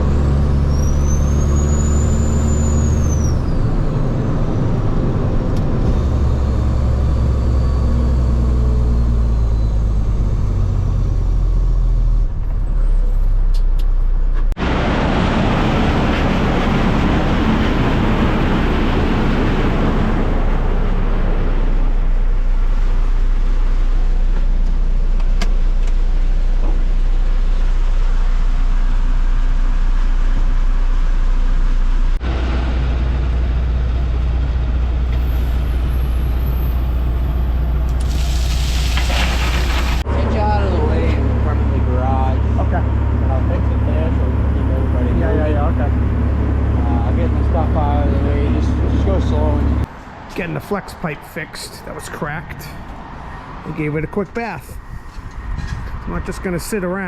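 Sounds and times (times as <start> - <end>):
diesel truck engine: 0.0 - 57.0.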